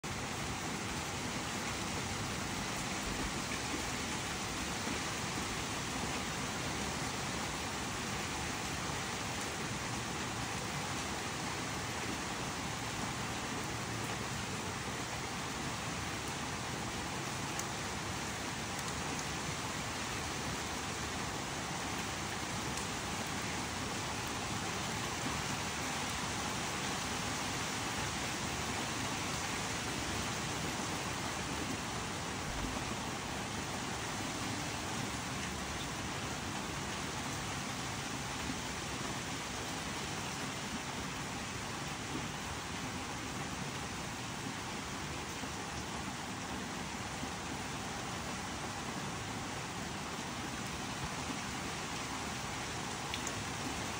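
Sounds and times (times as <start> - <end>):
rain falling on leaves: 0.0 - 53.9.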